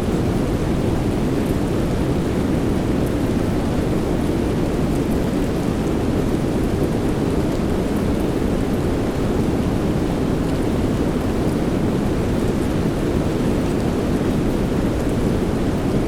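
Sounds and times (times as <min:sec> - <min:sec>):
soft rain: 0:00.0 - 0:16.0.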